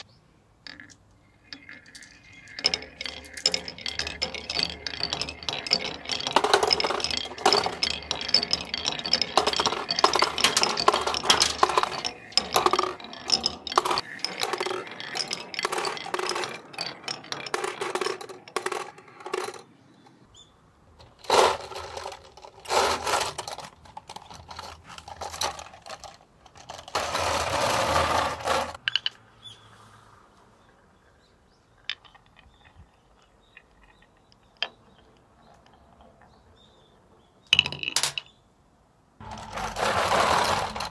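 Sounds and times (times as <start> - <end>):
marbles clattering on wooden tracks: 0.6 - 20.3, 21.0 - 29.3, 31.7 - 36.9, 37.5 - 38.3, 39.2 - 40.9.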